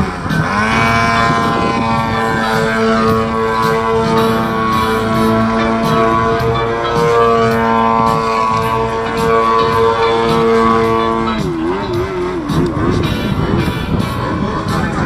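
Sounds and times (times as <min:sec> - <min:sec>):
model plane engine buzzing: 0:00.0 - 0:15.0.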